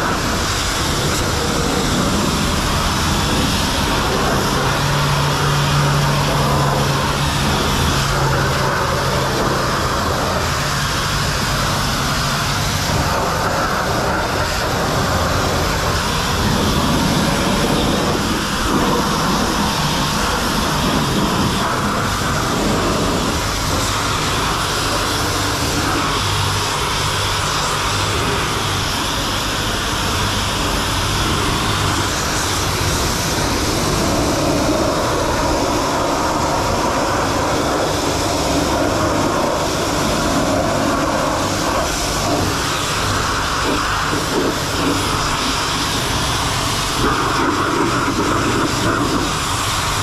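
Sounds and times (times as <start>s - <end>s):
pressure washer spraying water: 0.0s - 50.0s.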